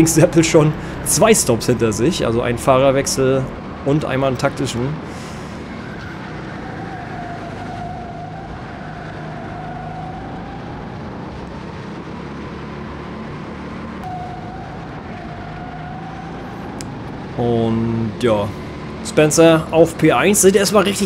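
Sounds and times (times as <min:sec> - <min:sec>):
go-kart engine running: 0:00.0 - 0:21.0.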